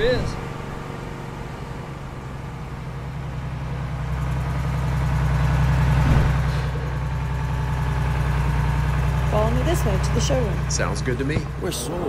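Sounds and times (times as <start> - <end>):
heavy engine humming: 0.0 - 12.0.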